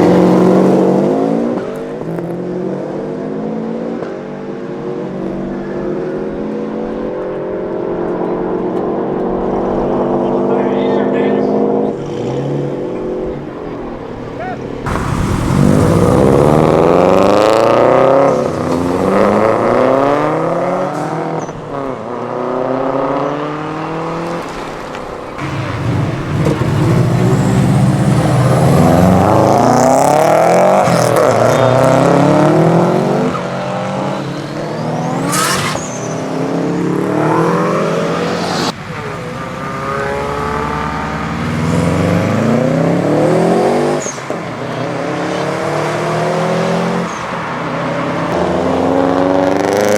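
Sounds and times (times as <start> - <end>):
car engine accelerating hard: 0.0 - 49.9.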